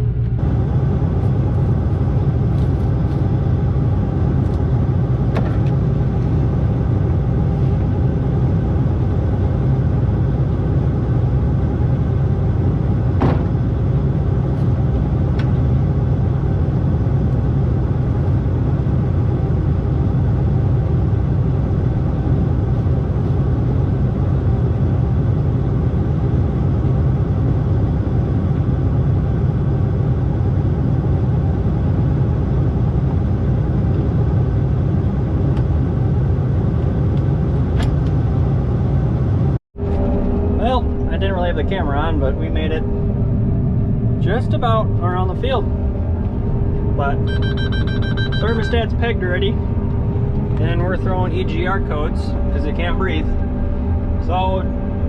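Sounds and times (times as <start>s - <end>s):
combine engine rumbling: 0.0s - 55.0s.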